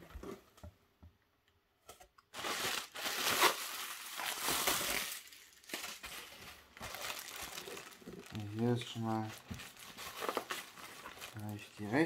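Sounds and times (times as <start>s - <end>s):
packaging rustling and crinkling: 2.3s - 12.0s.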